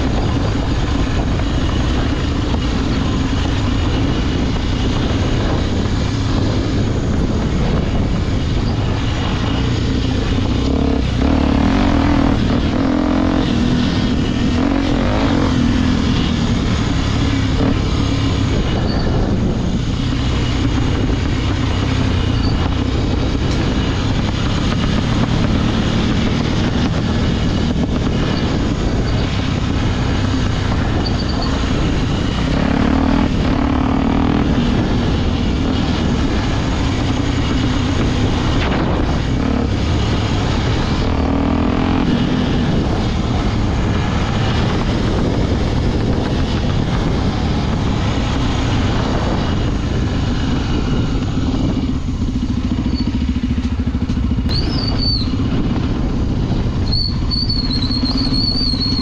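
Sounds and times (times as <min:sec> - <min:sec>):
dirt bike engine running: 0:00.0 - 0:59.0
wind rushing: 0:00.0 - 0:59.0.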